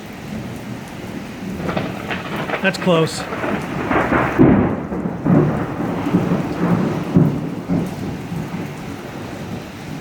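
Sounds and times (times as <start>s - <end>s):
heavy rain: 0.0s - 10.0s
thunder rumbling: 0.3s - 10.0s.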